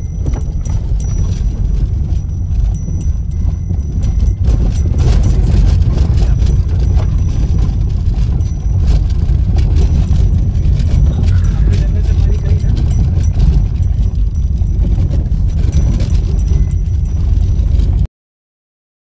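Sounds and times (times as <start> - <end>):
car rumbling on dirt track: 0.0 - 18.1
knocks and rattles: 0.0 - 18.1.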